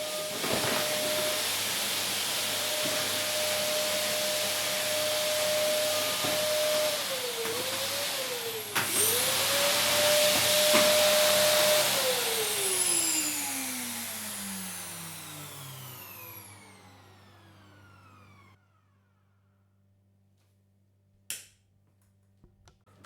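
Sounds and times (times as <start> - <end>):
vacuum cleaner motor running: 0.0 - 19.3.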